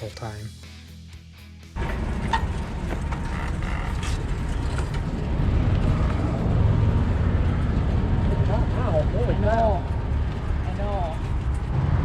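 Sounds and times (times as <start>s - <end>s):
motorcycle engine rumbling: 1.8s - 12.0s.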